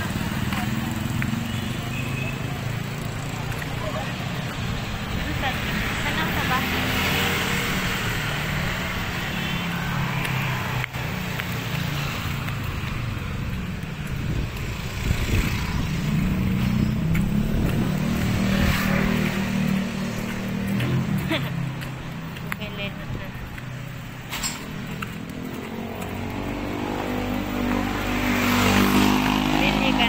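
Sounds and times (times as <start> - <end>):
motorcycles and cars passing: 0.0 - 30.0
road noise: 0.0 - 30.0.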